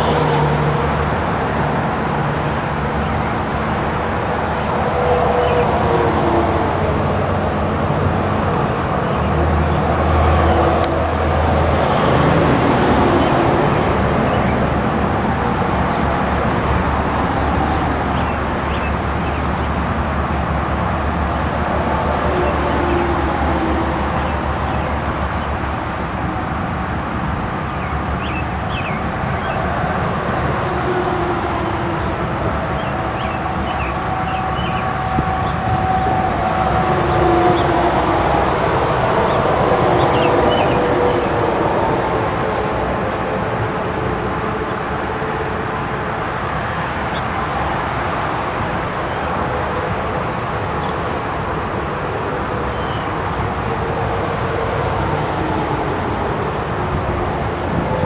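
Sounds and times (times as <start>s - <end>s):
heavy highway traffic: 0.0s - 58.0s.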